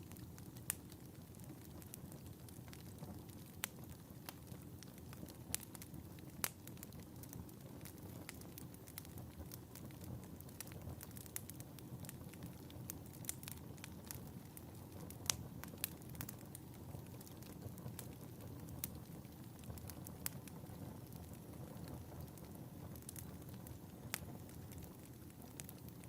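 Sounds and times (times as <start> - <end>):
fire crackling and popping: 0.0 - 26.0
flames low rumble: 0.0 - 26.0.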